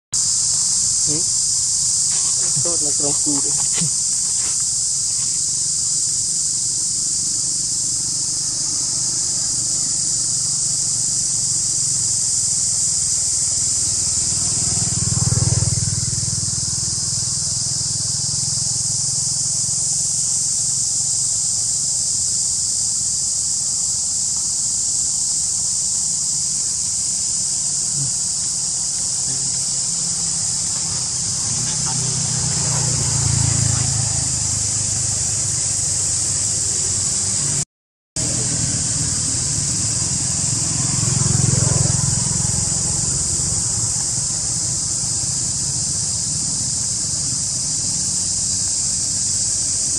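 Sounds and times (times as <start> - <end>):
insect chorus drone: 0.2 - 37.6, 38.2 - 49.9.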